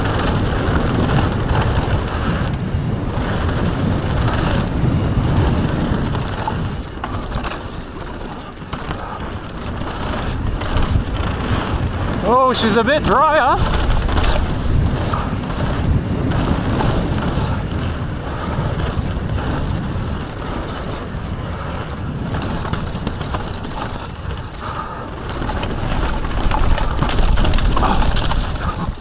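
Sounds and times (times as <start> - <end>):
bike rattling over bumps: 0.0 - 29.0
tyres rumbling on dirt: 0.0 - 29.0
wind rushing over microphone: 0.0 - 29.0.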